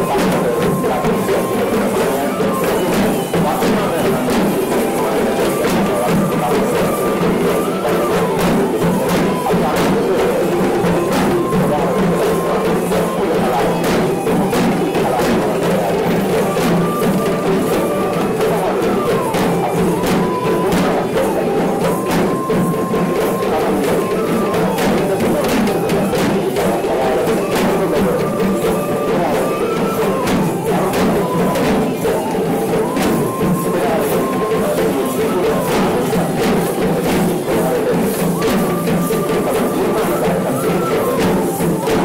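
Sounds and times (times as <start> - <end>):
barrel drums beating: 0.0 - 42.0.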